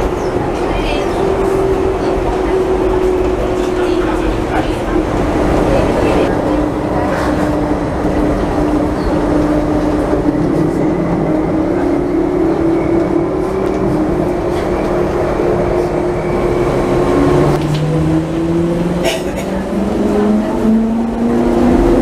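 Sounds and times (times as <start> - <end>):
light rail train rolling: 0.0 - 22.0.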